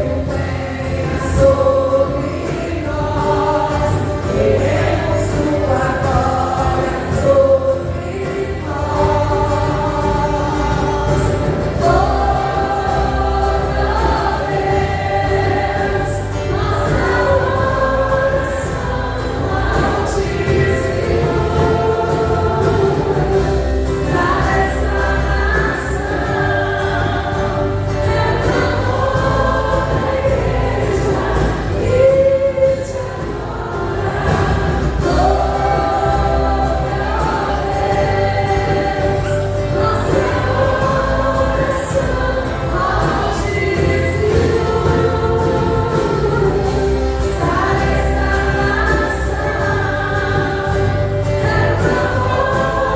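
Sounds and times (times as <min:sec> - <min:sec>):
choir singing gospel song: 0:00.0 - 0:52.9
instrumental backing with bass: 0:00.0 - 0:52.9.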